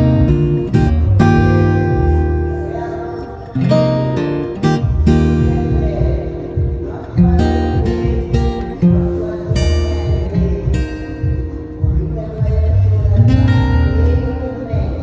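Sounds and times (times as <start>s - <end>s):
acoustic guitar strumming: 0.0s - 15.0s
steady bass: 0.0s - 15.0s.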